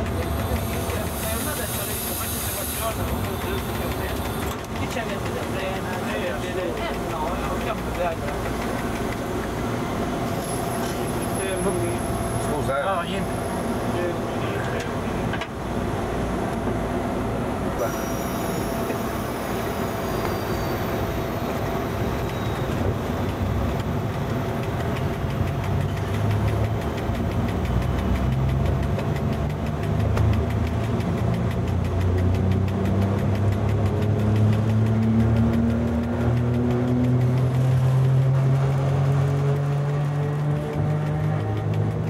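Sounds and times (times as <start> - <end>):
traction motors humming: 0.0 - 42.0
train whine and running noise: 0.0 - 42.0.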